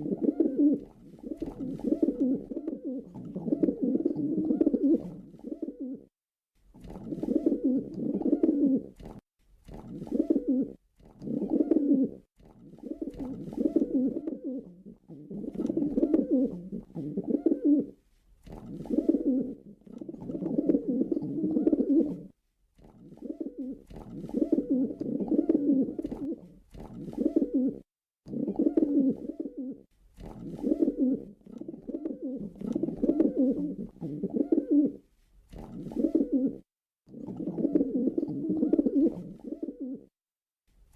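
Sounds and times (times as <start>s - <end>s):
pigeon cooing: 0.0s - 6.1s, 6.8s - 9.0s, 9.8s - 22.4s, 23.0s - 40.1s.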